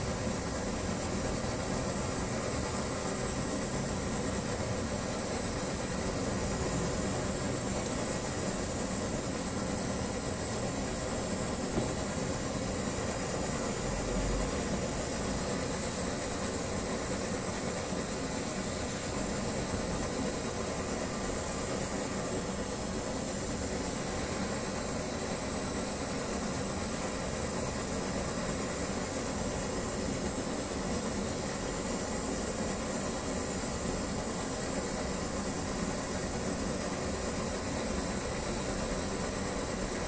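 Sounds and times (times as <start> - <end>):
kerosene stove hissing: 0.0 - 40.0.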